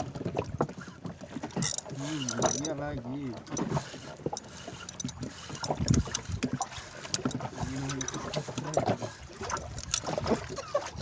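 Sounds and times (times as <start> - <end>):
fishing tackle clicking and knocking: 0.4 - 10.3.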